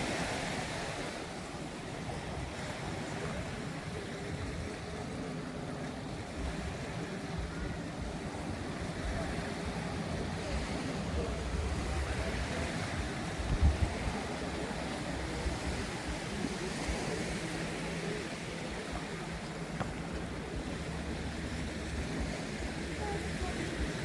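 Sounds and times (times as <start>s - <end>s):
low engine rumble: 0.0s - 24.0s
waves washing onto beach: 0.0s - 24.0s.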